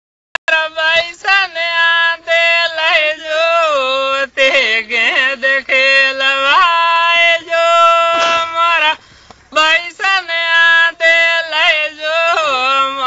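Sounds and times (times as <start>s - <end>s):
man singing unaccompanied: 0.4s - 13.0s.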